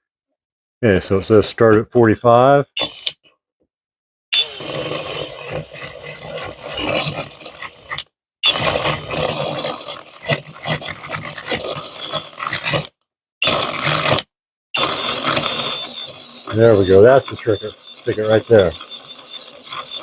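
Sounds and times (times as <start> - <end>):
drill grinding into tile: 2.8 - 3.2, 4.4 - 20.0.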